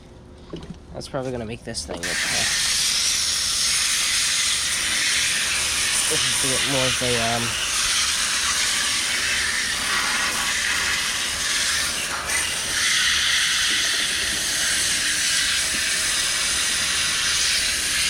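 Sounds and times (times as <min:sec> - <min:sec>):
hose spraying water on metal fins: 0:02.0 - 0:18.0.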